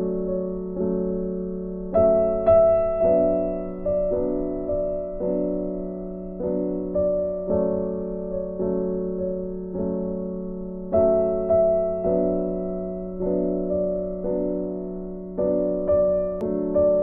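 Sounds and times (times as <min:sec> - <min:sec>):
soft piano slow chords: 0:00.0 - 0:17.0.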